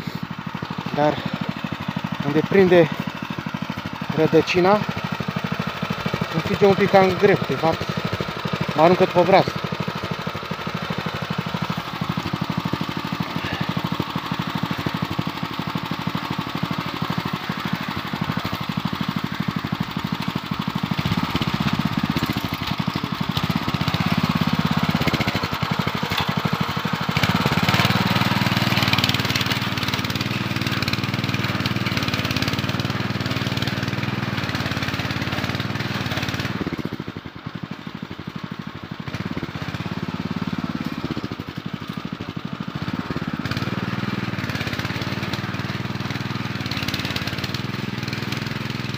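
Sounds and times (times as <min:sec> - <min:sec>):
tiller engine running under load: 0:00.0 - 0:48.9.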